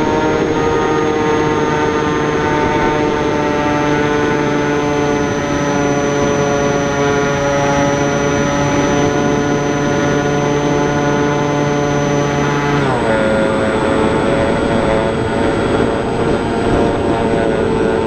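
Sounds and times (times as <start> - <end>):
model plane motor droning: 0.0 - 18.0.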